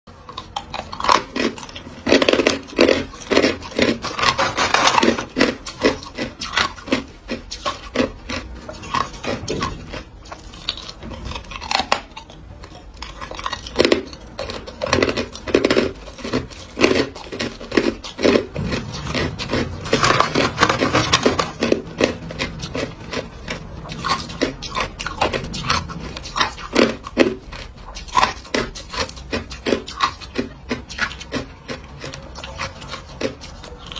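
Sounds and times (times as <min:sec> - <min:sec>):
ice crunching between teeth: 0:00.2 - 0:33.9.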